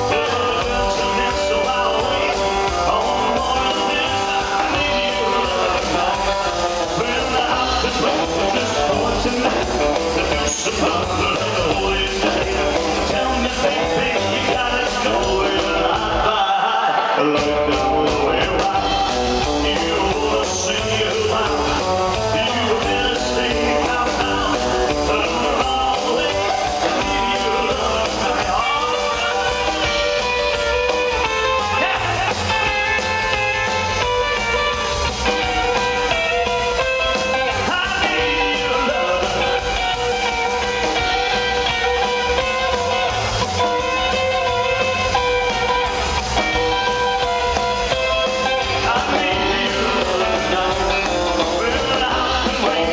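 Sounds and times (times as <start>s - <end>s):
upright double bass: 0.0s - 16.4s, 17.4s - 52.9s
drum kit beat: 0.0s - 52.9s
electric guitar: 0.0s - 52.9s
man singing lead vocal: 0.0s - 52.9s.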